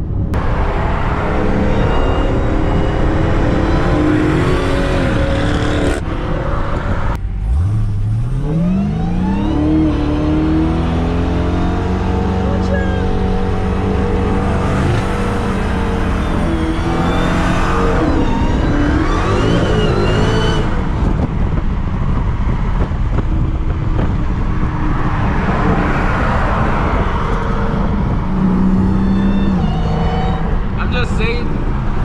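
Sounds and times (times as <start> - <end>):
road noise rushing: 0.0 - 32.0
car engine revving: 0.3 - 32.0.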